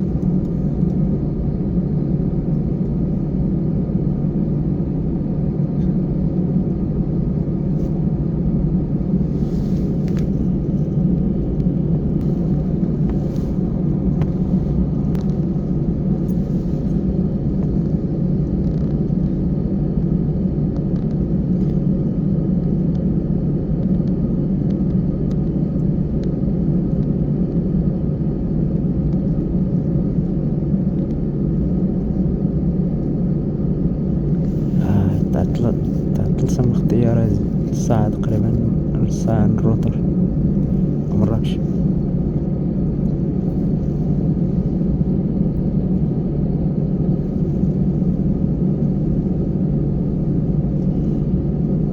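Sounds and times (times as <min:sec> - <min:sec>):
airliner engines rumbling: 0:00.0 - 0:51.9.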